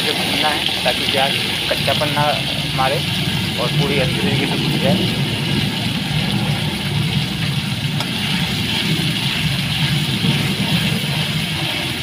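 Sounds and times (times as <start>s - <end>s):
low rumble: 0.0s - 12.0s
paste sizzling in hot oil: 0.0s - 12.0s.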